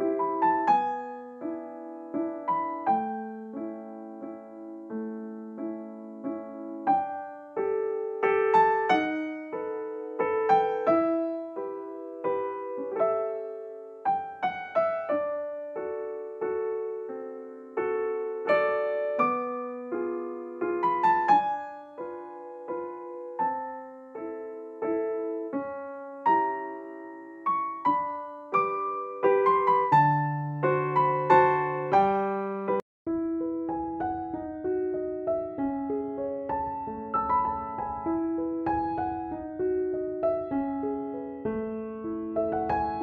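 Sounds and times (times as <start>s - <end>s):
gentle solo piano melody: 0.0s - 43.0s.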